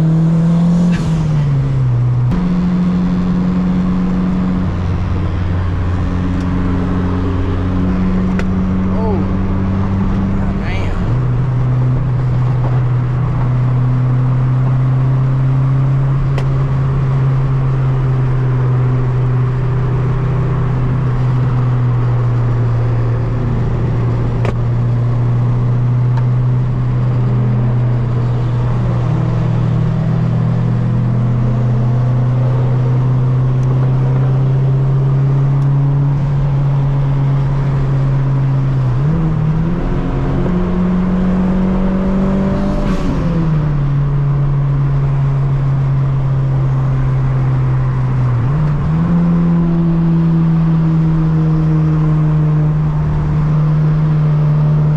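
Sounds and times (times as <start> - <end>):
car engine droning: 0.0 - 54.9.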